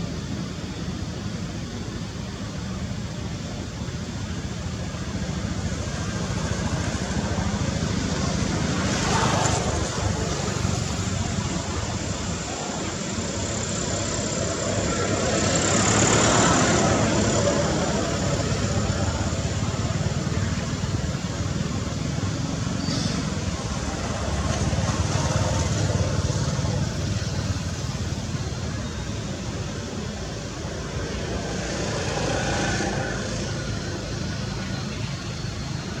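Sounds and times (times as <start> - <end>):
low traffic rumble: 0.0 - 36.0.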